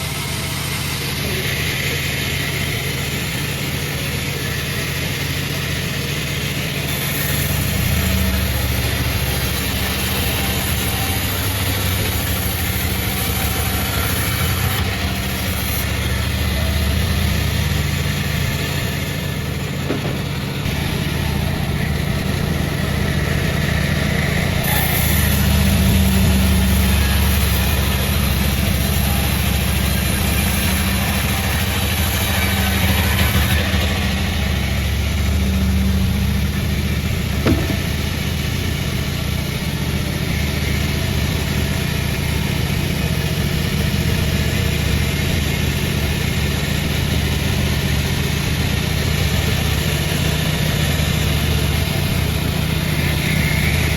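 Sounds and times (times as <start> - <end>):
sawmill machinery droning: 0.0 - 53.9.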